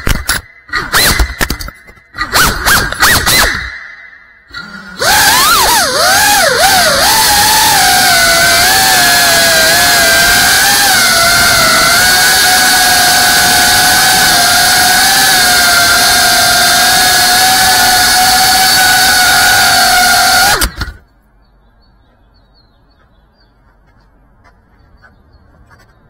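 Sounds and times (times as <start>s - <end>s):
drone motors and propellers whining: 0.0s - 21.1s.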